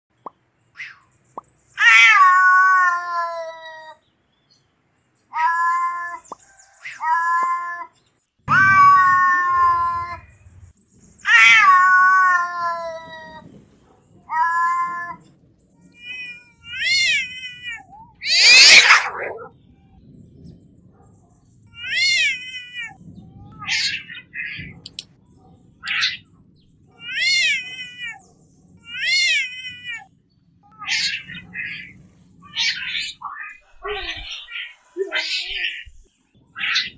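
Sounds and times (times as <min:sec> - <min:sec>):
cats meowing: 0:01.8 - 0:04.0, 0:05.3 - 0:10.5, 0:11.2 - 0:19.8, 0:21.7 - 0:25.1, 0:25.8 - 0:36.9.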